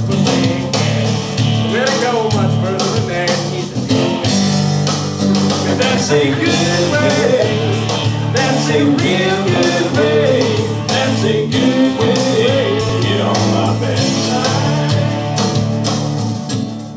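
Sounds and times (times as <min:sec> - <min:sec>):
person singing: 0:00.0 - 0:04.6, 0:05.6 - 0:15.6
low accompaniment: 0:00.0 - 0:16.4
strummed guitar: 0:00.0 - 0:16.9.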